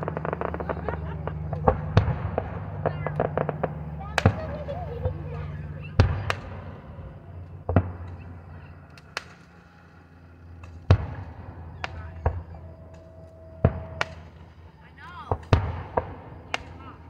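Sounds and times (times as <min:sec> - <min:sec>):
firework booms: 0:00.0 - 0:09.7, 0:10.5 - 0:17.0
low rumble: 0:00.0 - 0:17.0.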